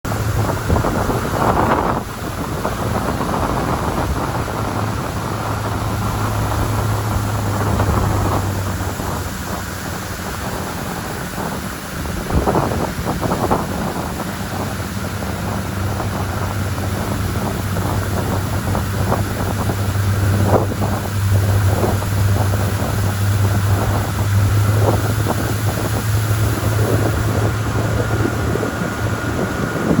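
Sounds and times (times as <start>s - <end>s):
motorboat engine running: 0.0s - 30.0s
water rushing past hull: 0.0s - 30.0s
wind buffeting microphone: 0.0s - 30.0s.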